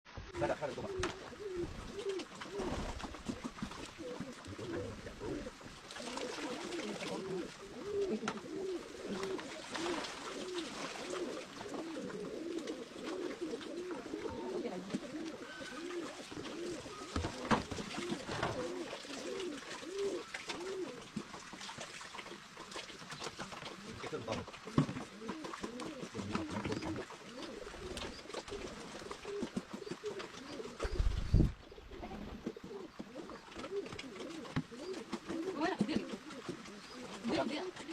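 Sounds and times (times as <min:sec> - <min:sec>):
pigeons cooing: 0:00.3 - 0:21.6, 0:22.2 - 0:37.9.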